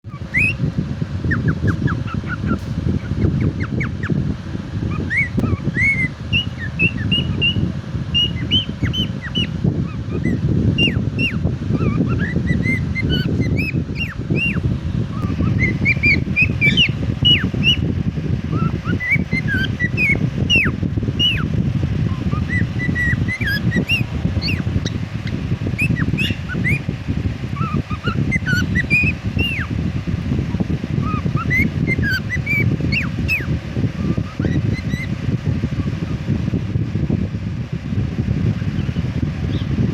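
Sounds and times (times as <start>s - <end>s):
steady low noise: 0.0s - 39.9s
cockatiel chirping and whistling: 0.1s - 4.2s, 4.8s - 17.9s, 18.5s - 21.5s, 22.1s - 26.8s, 27.6s - 29.8s, 30.4s - 36.2s.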